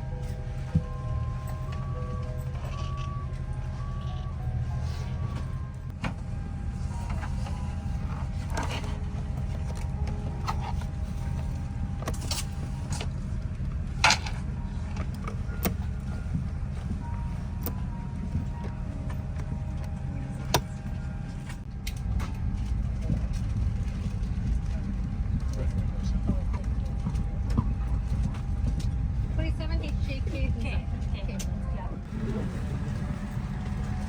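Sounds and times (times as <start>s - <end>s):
cabin air hum: 0.0s - 34.0s.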